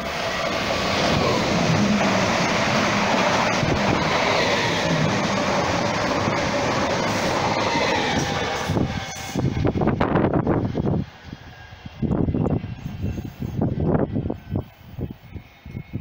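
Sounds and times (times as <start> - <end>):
train running past: 0.0 - 16.0.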